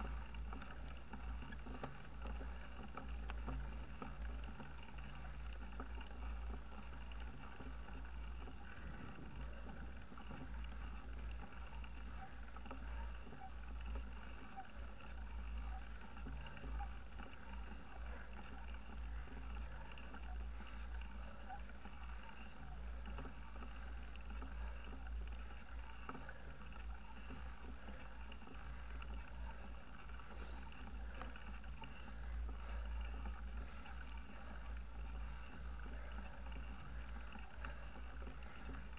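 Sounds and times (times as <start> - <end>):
tyres rolling on tarmac: 0.0 - 38.9.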